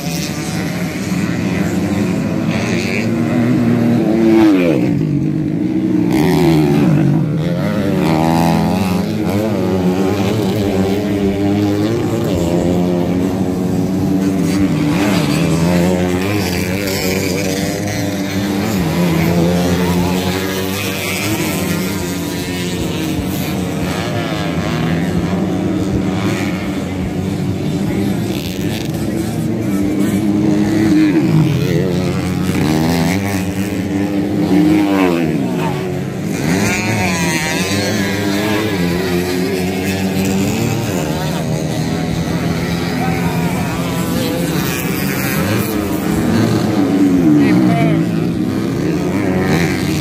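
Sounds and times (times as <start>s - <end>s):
racing motorcycles accelerating: 0.0s - 50.0s.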